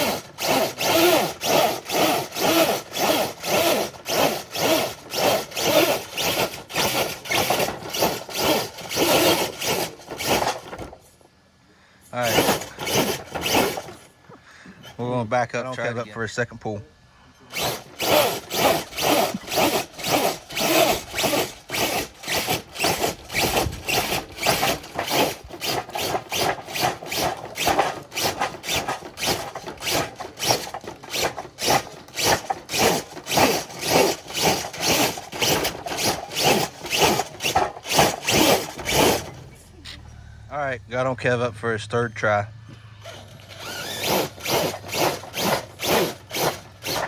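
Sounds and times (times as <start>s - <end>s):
electric motor straining under load: 0.0s - 11.0s, 12.2s - 14.2s, 17.5s - 40.0s, 43.0s - 47.0s.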